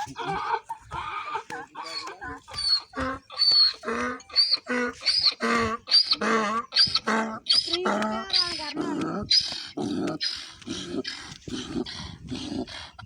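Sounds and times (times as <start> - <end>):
donkey braying: 0.0 - 13.0.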